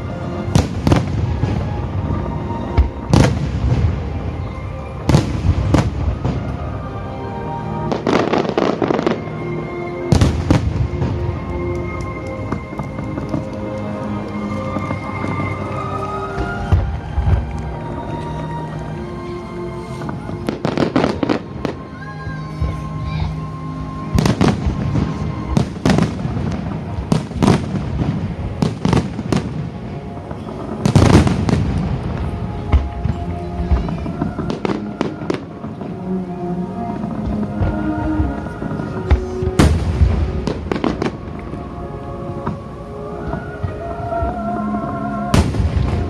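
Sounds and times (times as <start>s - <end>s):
fireworks bursting: 0.0s - 6.9s, 7.8s - 9.4s, 10.1s - 23.0s, 24.0s - 42.6s, 45.0s - 46.0s
music: 0.0s - 46.0s.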